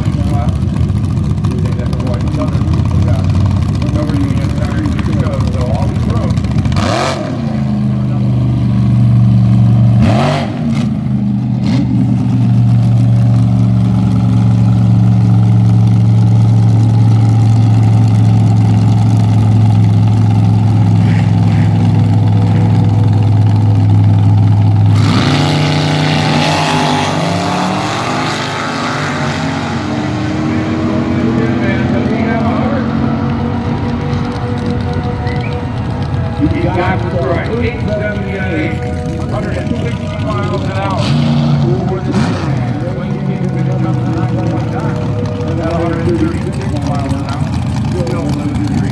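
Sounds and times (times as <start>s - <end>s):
dragster engines droning: 0.0s - 48.9s
engines revving: 0.0s - 48.9s.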